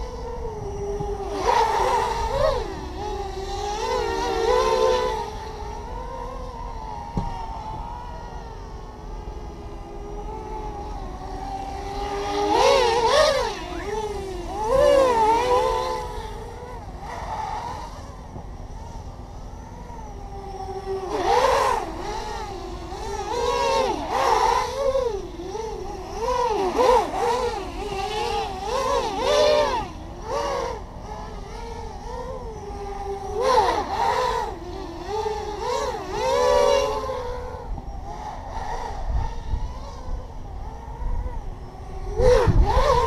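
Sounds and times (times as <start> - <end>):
quadcopter motors whining: 0.0 - 43.0.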